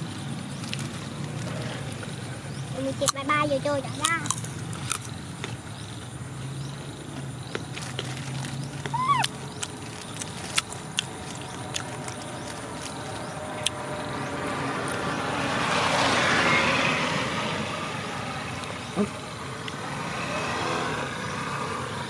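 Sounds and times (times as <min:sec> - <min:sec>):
vehicle passing: 0:00.0 - 0:22.0.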